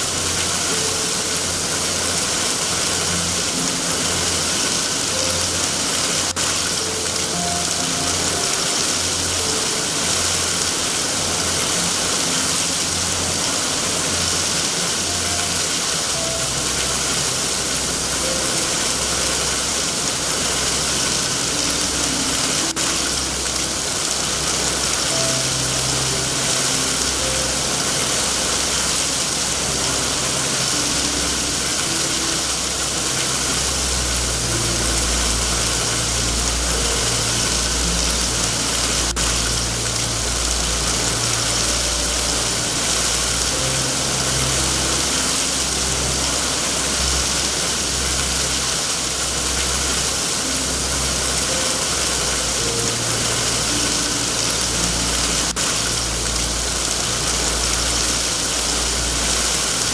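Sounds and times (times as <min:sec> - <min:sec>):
rain hiss: 0:00.0 - 0:59.9
low wavering rumble: 0:05.6 - 0:59.9.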